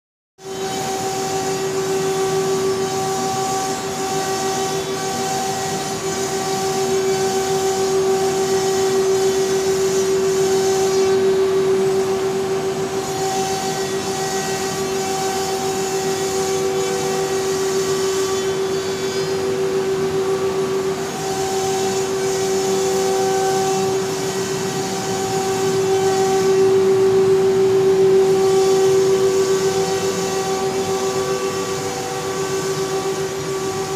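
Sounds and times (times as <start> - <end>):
router machining wood: 0.4 - 33.9.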